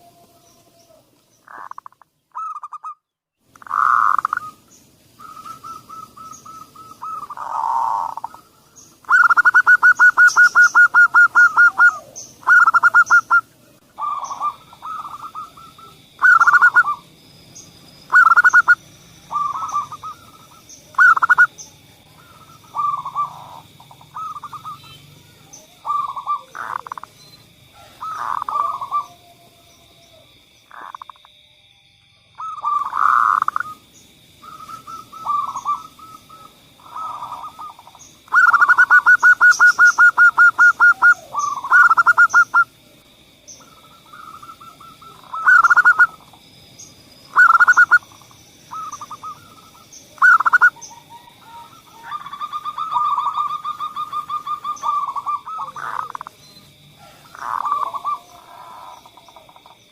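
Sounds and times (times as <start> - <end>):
doves cooing: 0.0 - 2.9, 3.6 - 31.2, 32.4 - 59.9.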